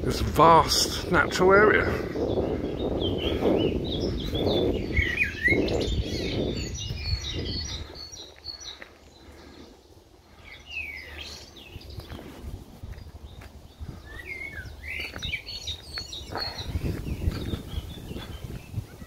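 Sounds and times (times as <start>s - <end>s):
small birds singing and chirping: 0.0s - 19.0s.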